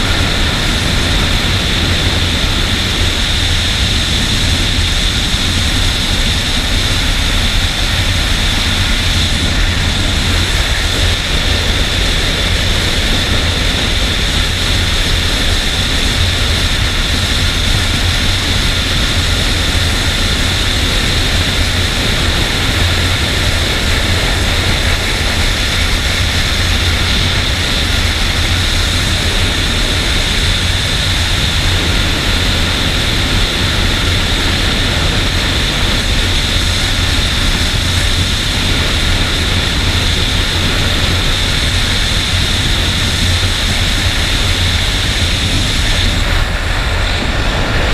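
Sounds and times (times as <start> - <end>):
heavy wind rush: 0.0 - 47.9
motorcycle engine cruising: 0.0 - 47.9.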